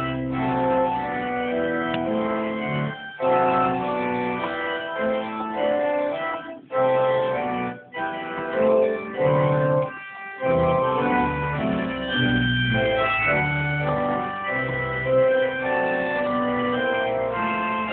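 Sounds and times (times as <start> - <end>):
organ chords: 0.0 - 17.9.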